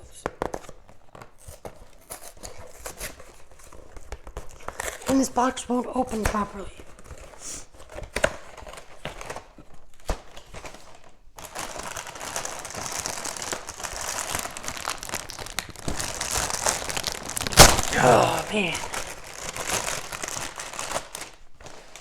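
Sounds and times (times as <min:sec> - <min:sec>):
cardboard snapping: 0:00.2 - 0:05.4, 0:06.1 - 0:22.0
plastic bag crinkling: 0:00.5 - 0:22.0.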